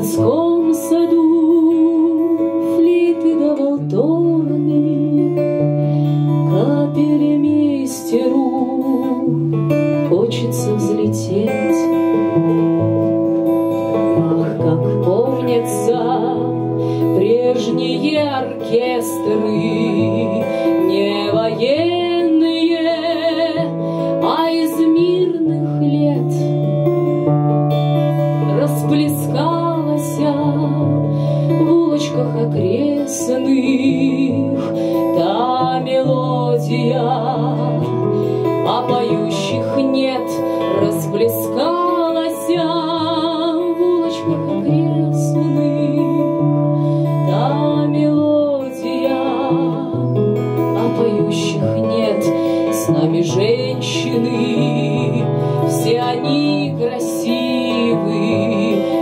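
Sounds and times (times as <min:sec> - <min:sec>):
strummed acoustic guitar: 0:00.0 - 0:59.0
woman singing: 0:00.0 - 0:59.0.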